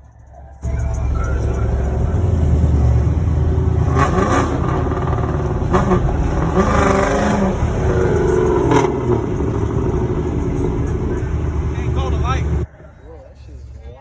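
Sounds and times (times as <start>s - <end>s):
engine rumbling: 0.6s - 14.0s.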